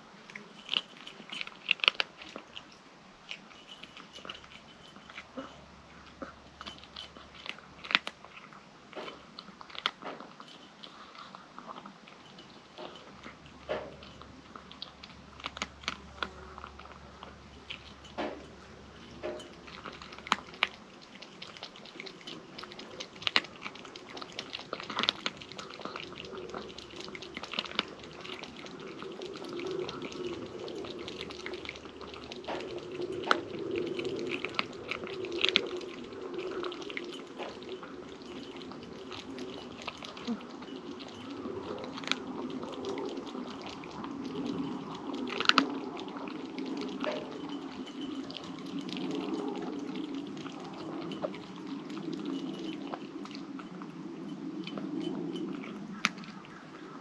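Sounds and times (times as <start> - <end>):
kitten crunching and chewing food: 0.0 - 57.0.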